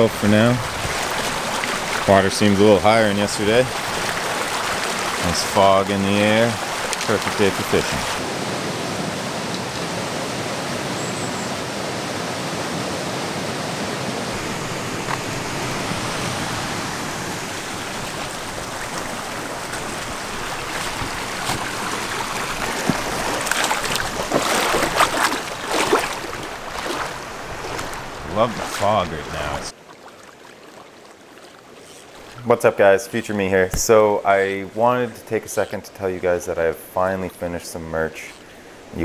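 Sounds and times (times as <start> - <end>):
stream water rushing: 0.0 - 36.8, 38.3 - 39.0.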